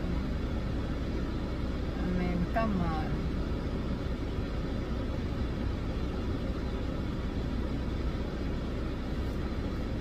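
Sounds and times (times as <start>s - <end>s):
car engine idling in cabin: 0.0s - 10.0s.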